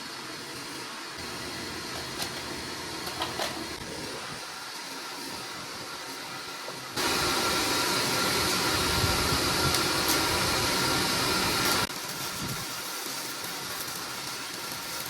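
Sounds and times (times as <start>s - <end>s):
welding arc burning: 0.0s - 15.0s.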